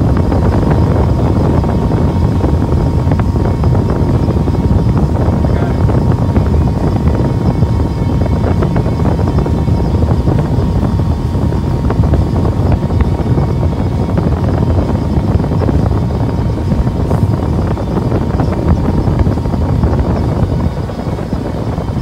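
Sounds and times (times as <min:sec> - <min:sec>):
powerboat running: 0:00.0 - 0:22.0
wind buffeting microphone: 0:00.0 - 0:22.0.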